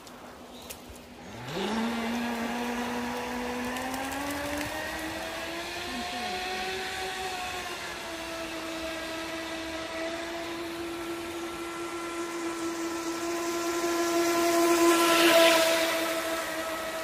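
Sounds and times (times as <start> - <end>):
electric motor whining: 1.2 - 17.0.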